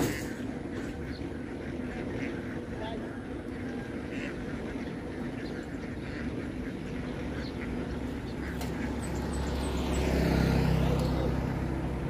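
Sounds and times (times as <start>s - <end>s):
ducks quacking: 0.0s - 12.0s
low engine rumble: 0.0s - 12.0s.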